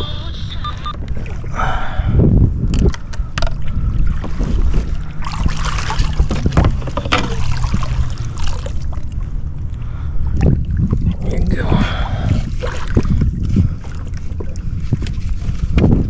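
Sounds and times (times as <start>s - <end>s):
water splashing against hull: 0.7s - 16.0s
wind buffeting microphone: 1.0s - 16.0s.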